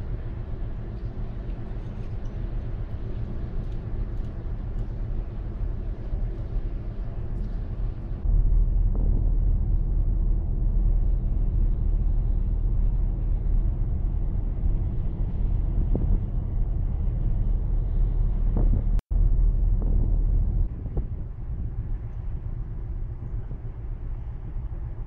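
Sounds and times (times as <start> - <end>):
ferry engine hum: 0.0 - 25.0
wind on microphone: 0.0 - 25.0.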